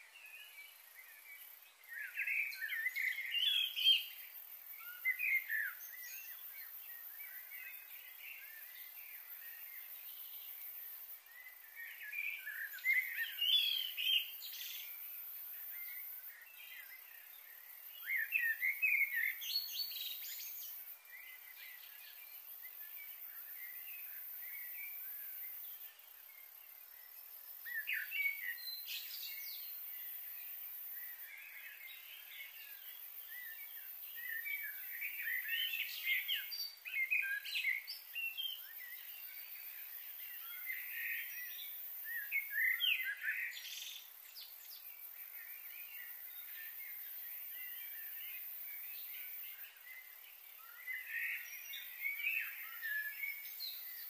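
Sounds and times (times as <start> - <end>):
faint outdoor hiss: 0.0 - 54.0.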